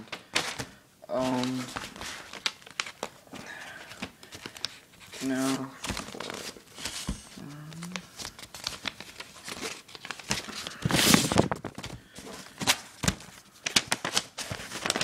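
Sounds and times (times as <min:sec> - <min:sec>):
paper mailer crinkling: 0:00.0 - 0:15.0
paper ripping: 0:00.3 - 0:03.1, 0:04.4 - 0:11.6, 0:12.5 - 0:15.0.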